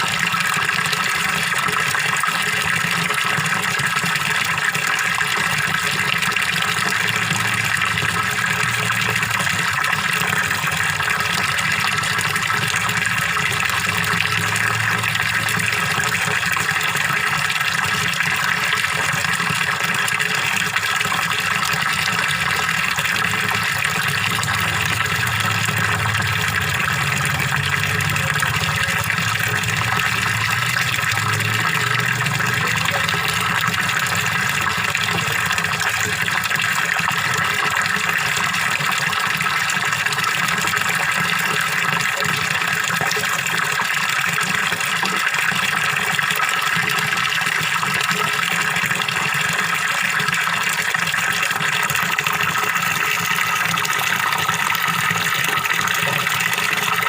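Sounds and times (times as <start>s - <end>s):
small waterfall splashing into pond: 0.0s - 57.0s.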